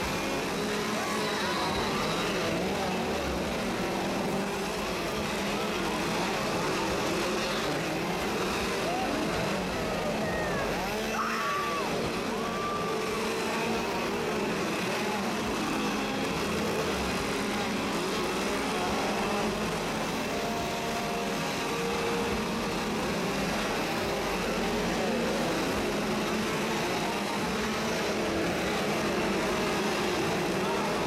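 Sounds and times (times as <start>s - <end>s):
chainsaw engines revving: 0.0s - 31.0s.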